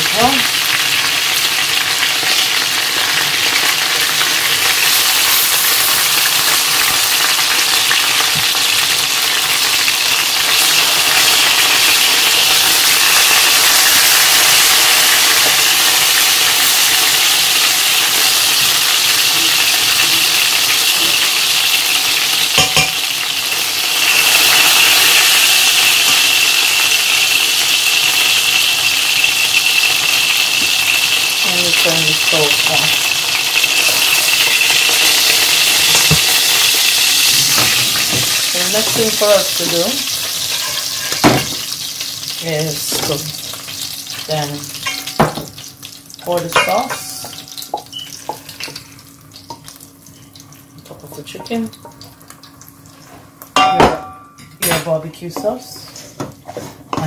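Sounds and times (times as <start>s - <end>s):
chicken sizzling in hot oil: 0.0s - 53.8s.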